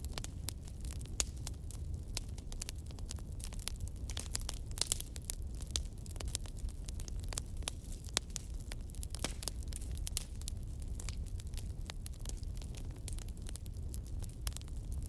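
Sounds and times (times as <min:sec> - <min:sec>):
low rumble of fire: 0:00.0 - 0:15.0
wood fire crackling: 0:00.0 - 0:15.0.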